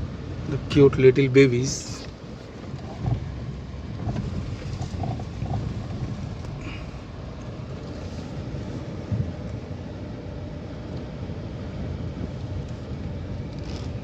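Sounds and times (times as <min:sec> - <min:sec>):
vehicle rumbling on dirt road: 0:00.0 - 0:14.0.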